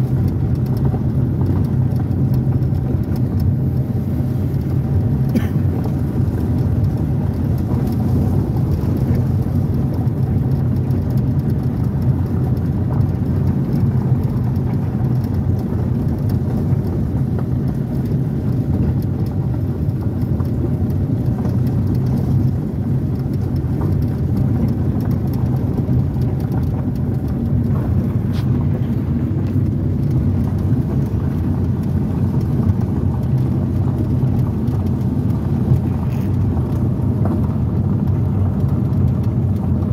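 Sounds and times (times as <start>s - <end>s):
car engine and tyre rumble: 0.0s - 39.9s
gravel crunching under tyres: 0.0s - 39.9s.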